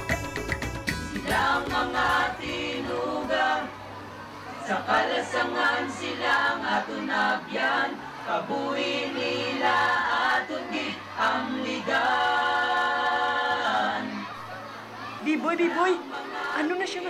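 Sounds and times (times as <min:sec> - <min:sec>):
group singing in chorus: 0:01.0 - 0:17.0.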